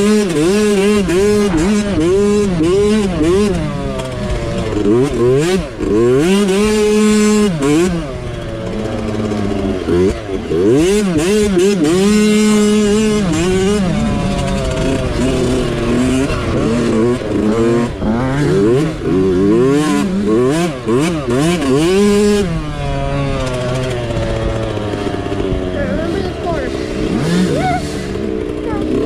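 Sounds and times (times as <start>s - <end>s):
mini bike engine revving: 0.0s - 29.0s.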